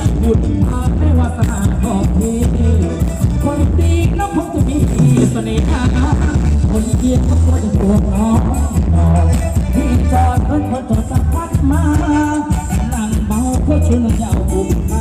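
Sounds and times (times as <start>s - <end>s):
live band dance music over pa: 0.0s - 15.0s
person singing: 0.0s - 15.0s.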